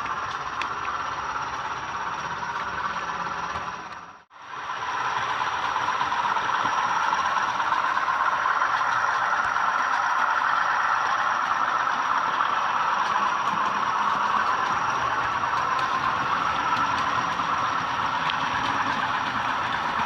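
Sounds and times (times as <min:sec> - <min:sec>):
diesel engine through small speaker: 0:00.0 - 0:20.0.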